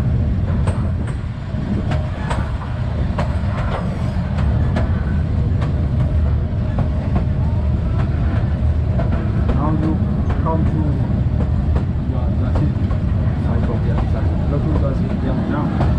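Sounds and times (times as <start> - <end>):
train rumbling: 0.0 - 15.9.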